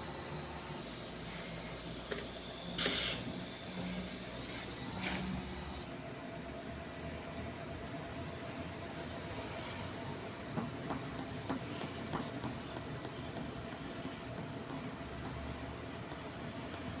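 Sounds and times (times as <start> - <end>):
cnc router whining: 0.0 - 14.7.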